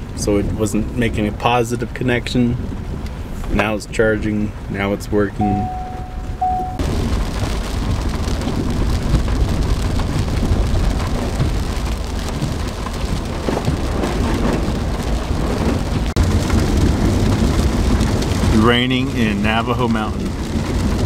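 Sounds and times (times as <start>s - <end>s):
rain pattering on windshield: 0.0s - 21.0s.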